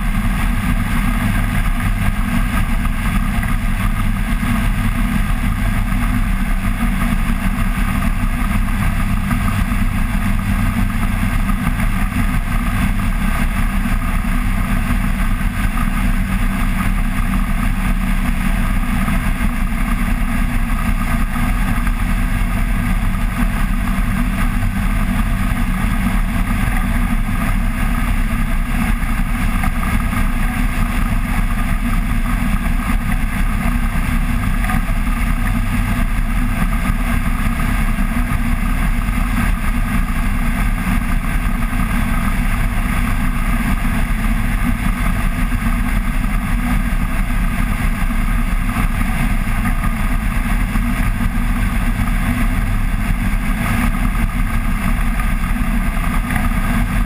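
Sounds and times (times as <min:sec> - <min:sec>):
engine and propeller running: 0:00.0 - 0:57.0.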